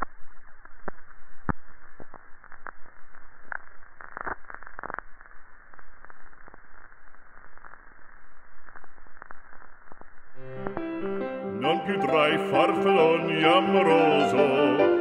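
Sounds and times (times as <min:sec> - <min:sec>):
record surface hiss and crackle: 0:00.0 - 0:15.0
sharp record clicks: 0:00.0 - 0:15.0.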